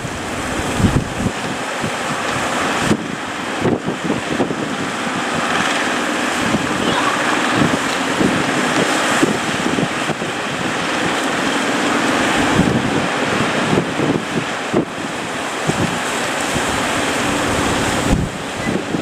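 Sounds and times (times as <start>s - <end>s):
boat engine running: 0.0s - 19.0s
surf breaking: 0.0s - 19.0s
wind buffeting microphone: 0.0s - 19.0s.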